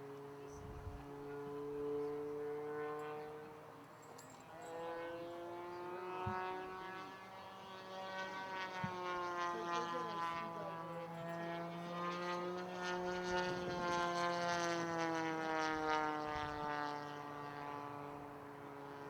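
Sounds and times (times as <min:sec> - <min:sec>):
model plane engine buzzing: 0:00.0 - 0:19.0.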